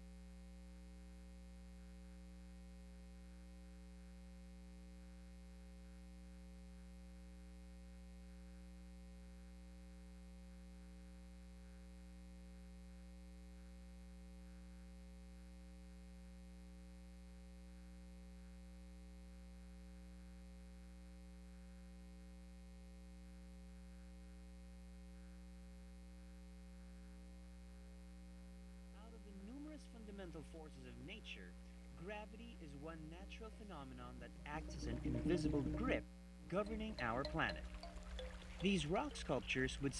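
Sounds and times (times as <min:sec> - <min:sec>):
faint mains hum: 0:00.0 - 0:39.9.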